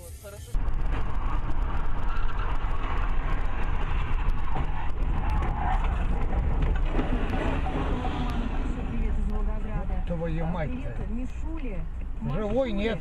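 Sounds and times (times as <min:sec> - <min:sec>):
car cabin road rumble: 0:00.5 - 0:13.0.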